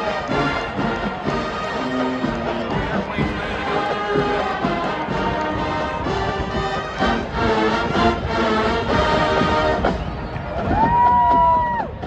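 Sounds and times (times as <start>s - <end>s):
marching band brass chords: 0.0s - 12.0s.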